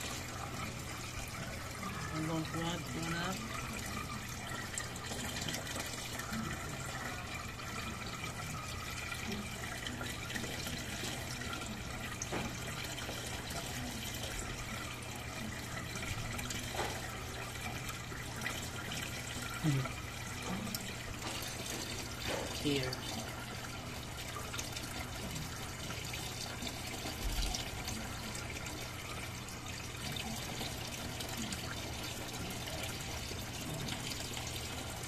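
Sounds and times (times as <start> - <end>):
water running in tank: 0.0 - 35.0.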